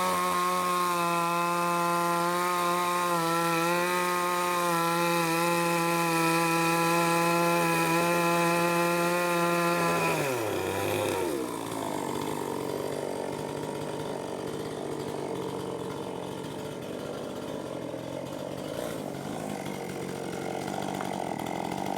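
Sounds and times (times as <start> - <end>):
two-stroke chainsaw running: 0.0 - 21.9.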